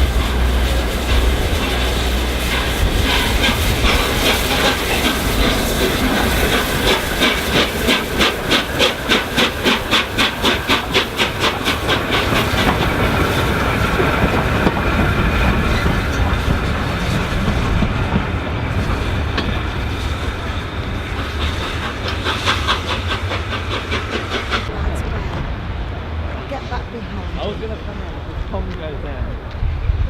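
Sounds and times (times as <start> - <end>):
steam hissing: 0.0 - 24.8
steam locomotive passing: 0.0 - 30.0.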